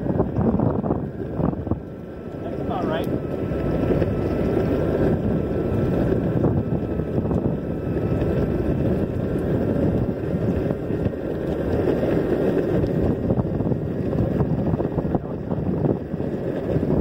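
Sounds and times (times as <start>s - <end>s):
wheels rolling on asphalt: 0.0s - 17.0s
wind buffeting microphone: 0.0s - 17.0s.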